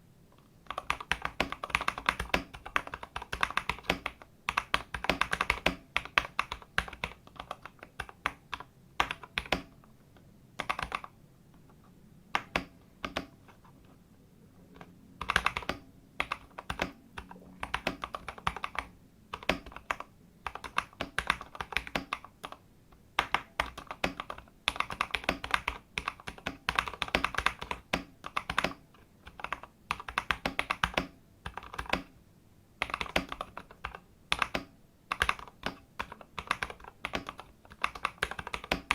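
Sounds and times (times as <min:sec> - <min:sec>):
mechanical keyboard typing: 0:00.6 - 0:09.8, 0:10.6 - 0:11.2, 0:12.3 - 0:13.7, 0:14.8 - 0:22.6, 0:23.2 - 0:32.1, 0:32.8 - 0:38.9.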